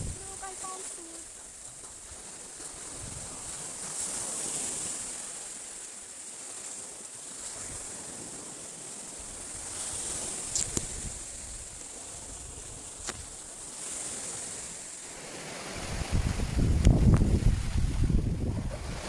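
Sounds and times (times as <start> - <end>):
waves washing onto rocky shore: 0.0 - 19.0.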